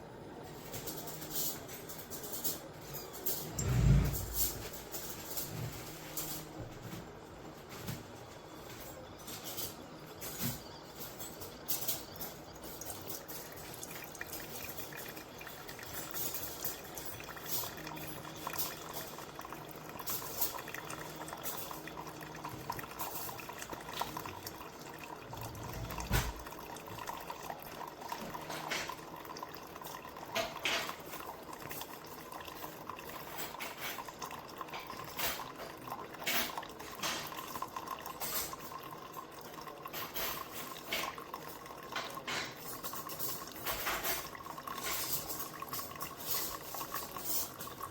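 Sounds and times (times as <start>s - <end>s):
coffee maker gurgling and dripping: 0.0s - 47.9s.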